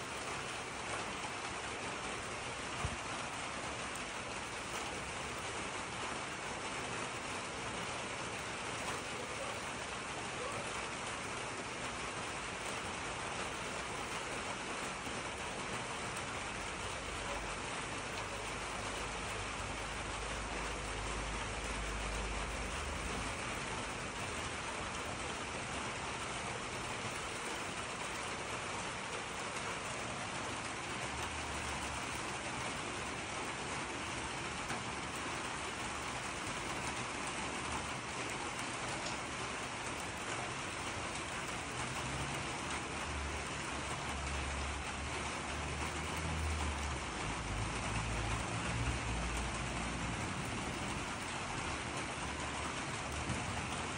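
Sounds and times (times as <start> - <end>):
steady outdoor hiss: 0.0 - 53.9.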